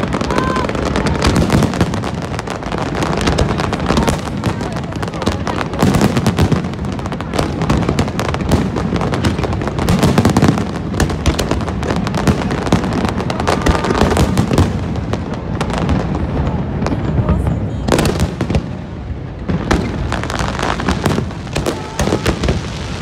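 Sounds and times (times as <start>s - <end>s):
fireworks cracking: 0.0s - 23.0s
fireworks deep booms: 0.0s - 23.0s.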